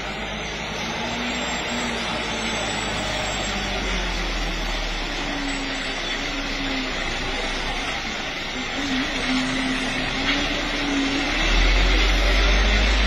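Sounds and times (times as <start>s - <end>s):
truck engine climbing: 0.0s - 13.0s.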